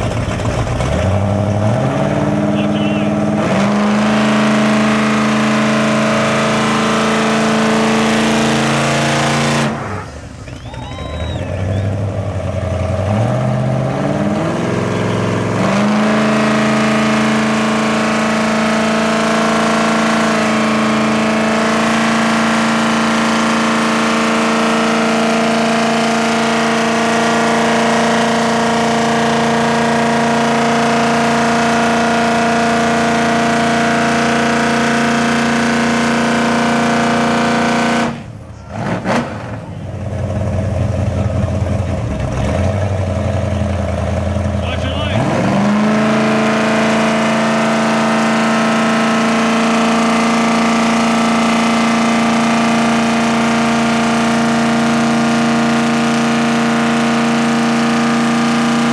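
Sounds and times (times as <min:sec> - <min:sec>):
truck engines revving under load: 0:00.0 - 0:58.9.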